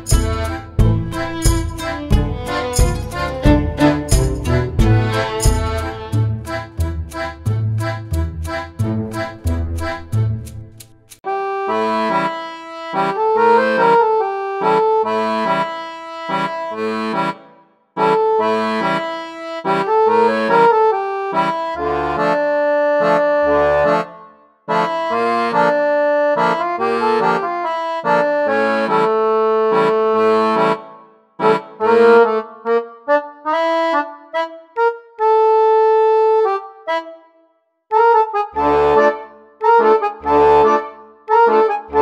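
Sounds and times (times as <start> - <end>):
lively instrumental music: 0.0 - 42.0.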